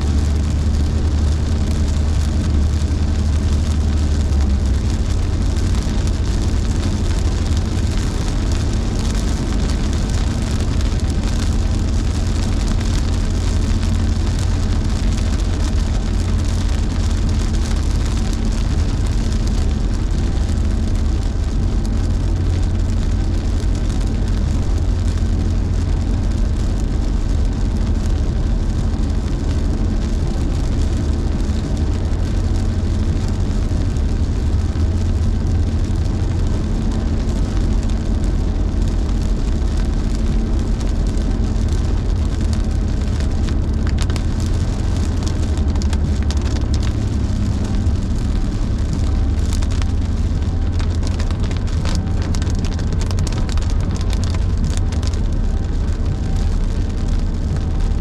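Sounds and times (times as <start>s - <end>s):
car engine and road rumble: 0.0s - 58.0s
rain hitting car: 0.0s - 58.0s.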